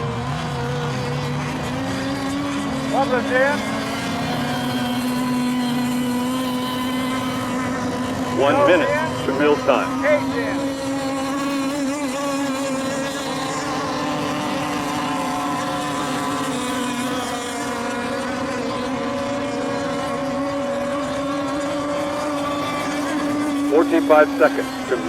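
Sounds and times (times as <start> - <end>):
model boat engines buzzing: 0.0 - 25.0.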